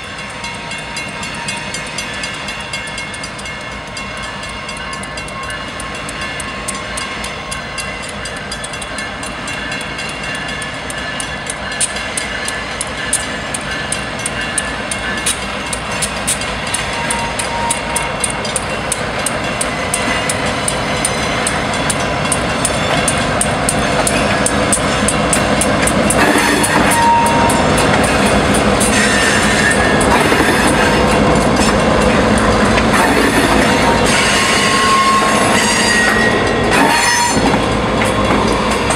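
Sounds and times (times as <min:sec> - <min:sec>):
crossing bell dinging: 0:00.0 - 0:38.9
diesel locomotives passing: 0:00.0 - 0:38.9
rattle and clatter of train cars: 0:00.0 - 0:38.9.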